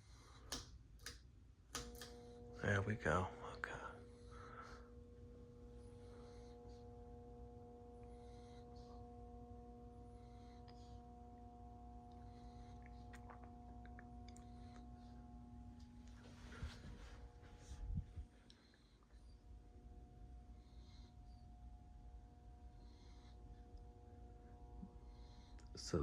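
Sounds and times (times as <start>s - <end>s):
ceiling fan motor humming: 0.0s - 26.0s.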